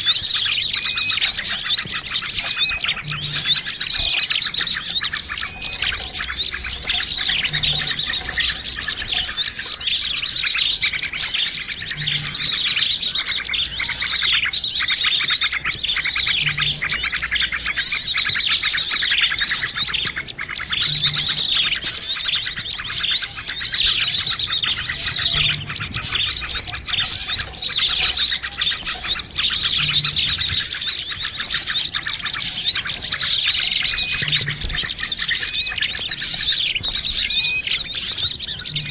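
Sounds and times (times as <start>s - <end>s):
small birds chirping in chorus: 0.0s - 38.9s.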